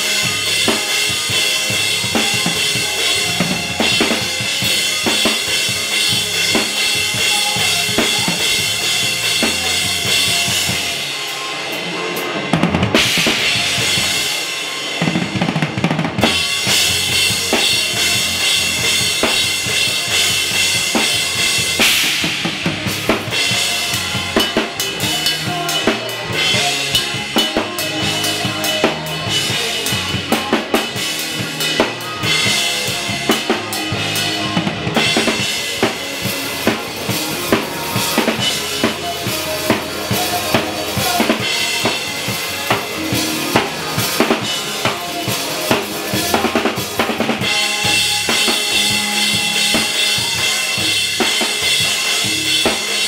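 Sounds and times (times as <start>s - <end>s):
drum kit beat: 0.0s - 53.0s
full band playing: 0.0s - 53.0s.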